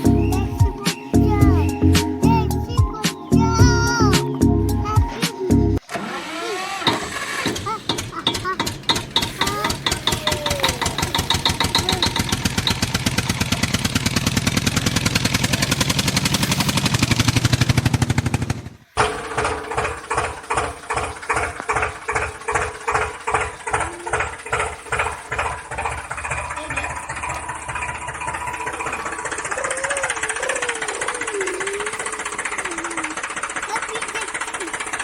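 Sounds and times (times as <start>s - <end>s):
engine running fast beat: 0.0s - 5.5s, 7.5s - 35.0s
slow pulsing engine sound: 0.0s - 5.8s, 7.9s - 35.0s.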